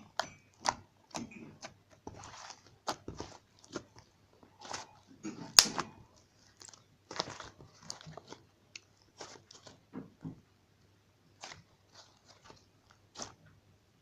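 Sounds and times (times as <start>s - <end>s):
slime squishing: 0.0s - 10.5s, 11.1s - 14.0s.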